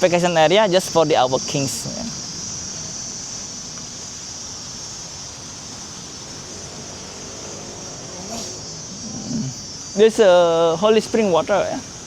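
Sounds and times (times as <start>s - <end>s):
background hiss: 0.0s - 12.0s
insects droning: 0.0s - 12.0s.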